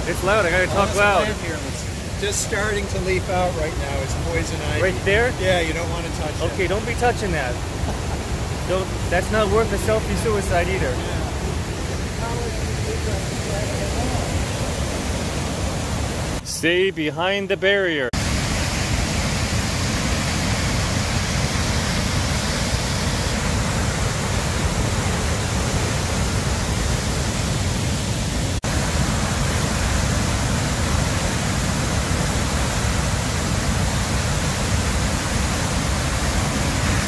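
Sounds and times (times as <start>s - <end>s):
waterfall roaring: 0.0s - 16.8s, 18.2s - 37.0s.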